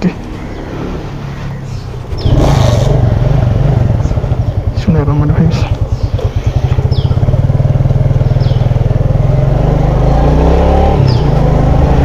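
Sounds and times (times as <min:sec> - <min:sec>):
motorcycle engine pulling away: 0:00.5 - 0:12.0.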